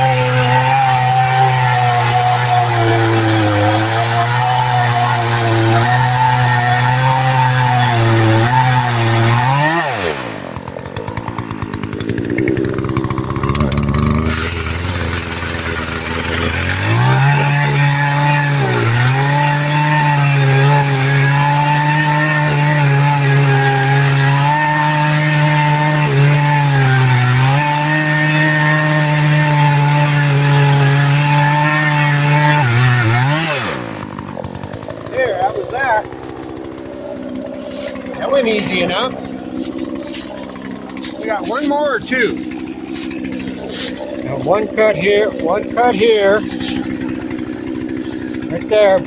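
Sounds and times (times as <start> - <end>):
chainsaw cutting wood: 0.0 - 49.0.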